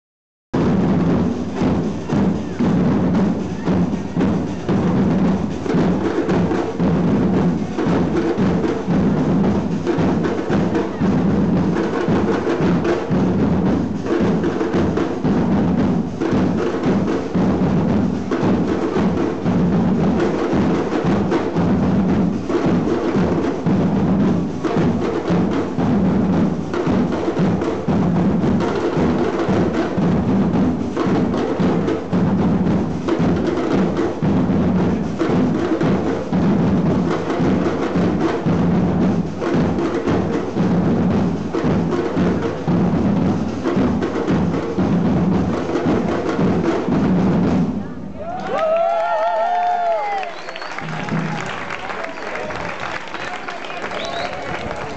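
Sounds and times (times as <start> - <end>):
bass drums beating: 0.6 - 54.9
snare drums beaten with sticks: 0.6 - 54.9.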